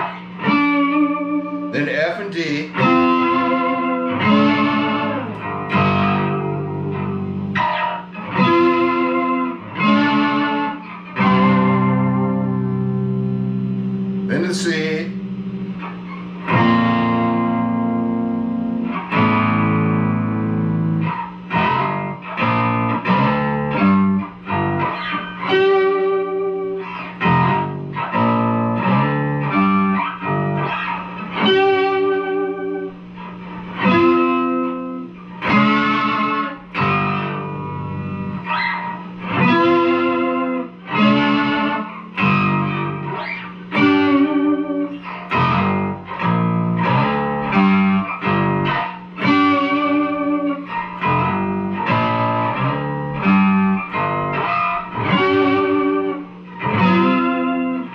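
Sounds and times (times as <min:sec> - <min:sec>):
guitar strumming chords: 0:00.0 - 0:57.9.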